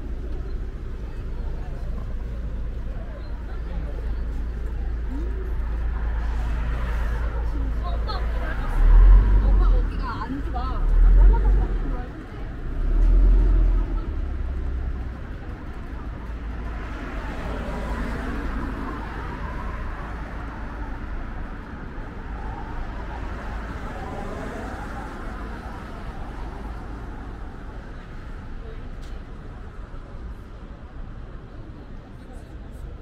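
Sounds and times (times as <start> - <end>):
traffic hum: 0.0 - 33.0.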